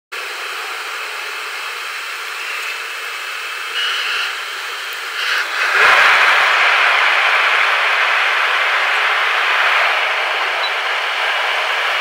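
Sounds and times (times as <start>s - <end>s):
jet engines and cabin air hiss: 0.2s - 12.0s
thin high whine: 0.2s - 12.0s.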